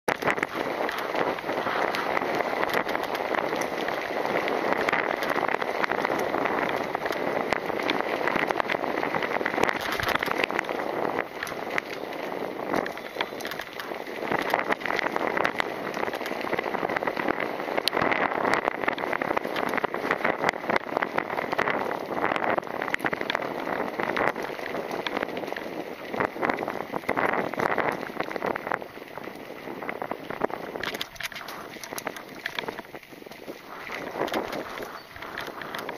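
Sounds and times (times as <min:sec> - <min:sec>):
bike tyres crunching on gravel: 0:00.1 - 0:35.9
stones and bike rattling: 0:00.1 - 0:35.9.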